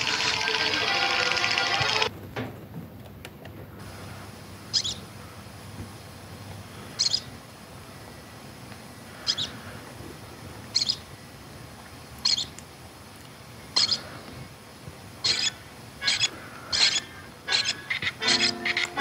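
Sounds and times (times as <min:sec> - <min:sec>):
steady hiss: 0:03.7 - 0:19.0.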